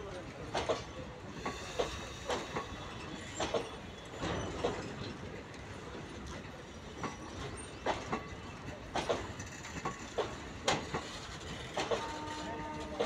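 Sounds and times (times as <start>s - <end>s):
train coaches rumbling past: 0.0s - 13.0s
wheels clacking on rails: 0.0s - 13.0s.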